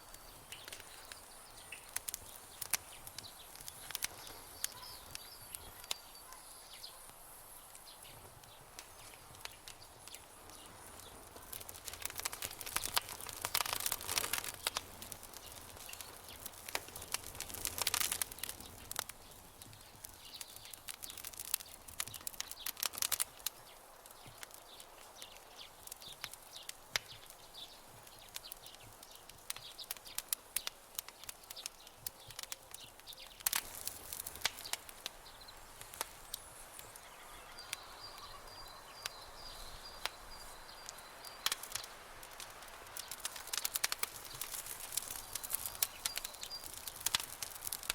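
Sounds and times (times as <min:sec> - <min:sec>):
campfire crackling and popping: 0:00.0 - 0:47.9
faint steady hiss: 0:00.0 - 0:47.9.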